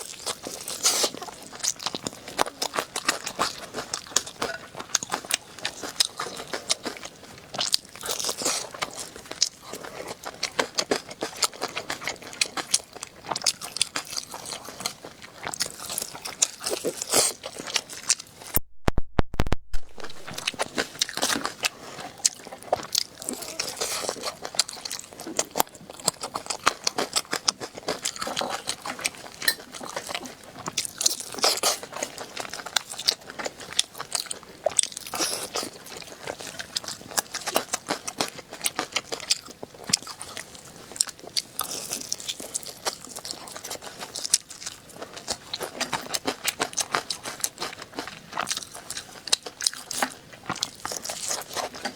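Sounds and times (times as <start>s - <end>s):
crunching and chewing: 0.0s - 18.6s, 19.7s - 51.9s.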